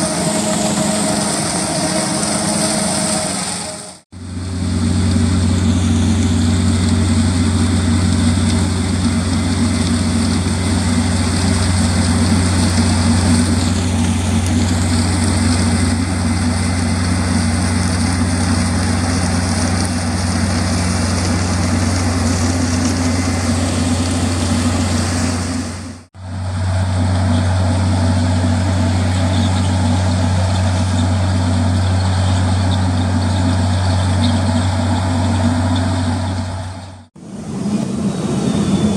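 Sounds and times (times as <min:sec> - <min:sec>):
farm machinery engines droning: 0:00.0 - 0:38.9.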